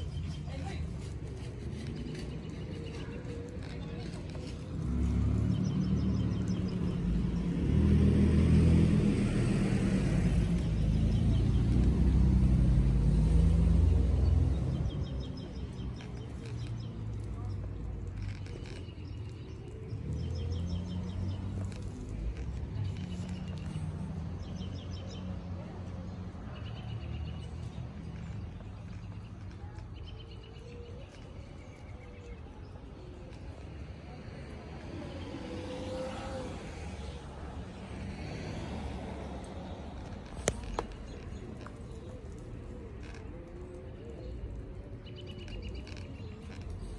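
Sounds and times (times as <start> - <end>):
hoverboard rolling over concrete: 0.0 - 46.9.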